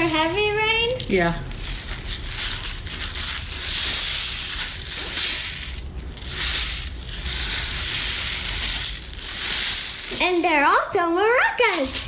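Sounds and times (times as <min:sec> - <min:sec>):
rice rushing through rain sticks: 0:00.0 - 0:10.7.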